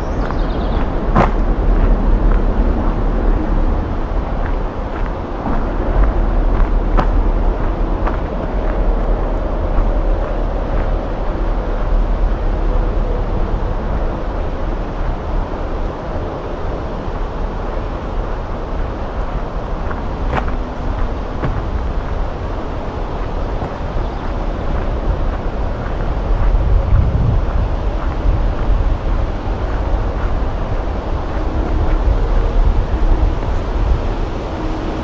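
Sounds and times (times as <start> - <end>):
faint steady hum: 0.0 - 35.0
light footsteps on trail: 0.0 - 35.0
wind rumbling on microphone: 0.0 - 35.0.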